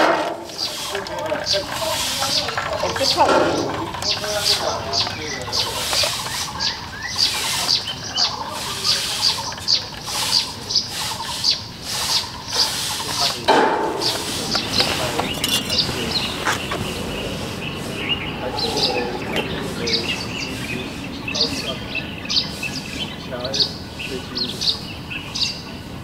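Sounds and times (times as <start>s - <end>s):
small birds chirping: 0.3s - 26.0s.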